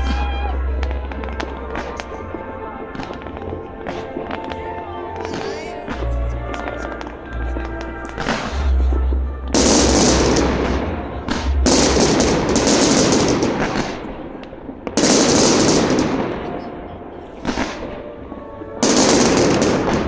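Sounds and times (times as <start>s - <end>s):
fireworks crackling: 0.0s - 20.0s.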